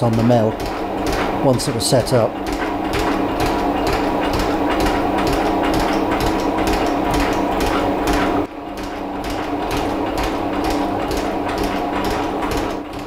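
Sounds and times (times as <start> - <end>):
motor humming: 0.0 - 13.0
shaper ram clattering: 0.0 - 13.0.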